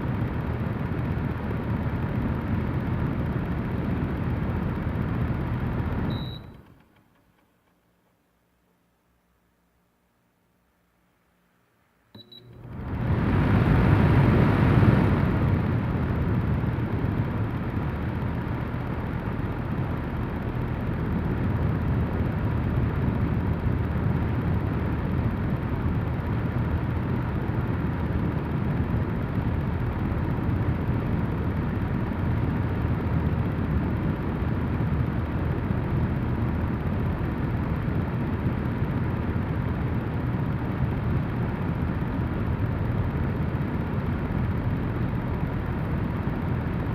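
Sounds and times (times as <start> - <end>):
faint steady whine: 0.0 - 46.9
fan blowing air: 0.0 - 46.9.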